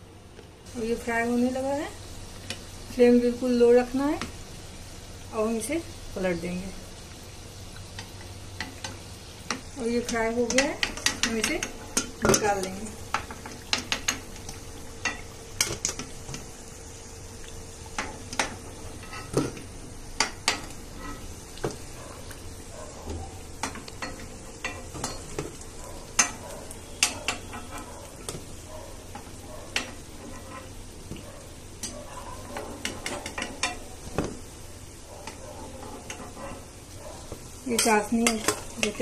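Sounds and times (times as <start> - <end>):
oil sizzling: 0.0 - 39.0.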